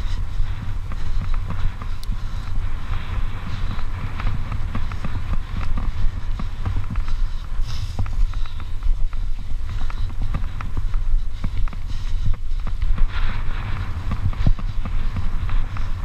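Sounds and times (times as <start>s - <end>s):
bike clicking and rattling: 0.0s - 16.0s
tyres on loose dirt: 0.0s - 16.0s
wind buffeting microphone: 0.0s - 16.0s.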